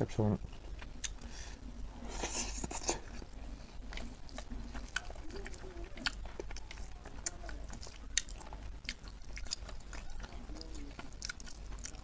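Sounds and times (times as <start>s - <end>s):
wet chewing and lip smacking: 0.5s - 1.4s, 2.1s - 12.0s.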